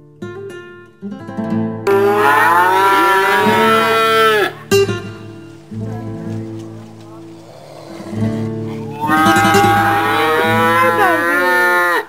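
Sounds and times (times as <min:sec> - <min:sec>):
acoustic guitar music: 0:00.0 - 0:12.0
calf bawling: 0:01.9 - 0:12.0.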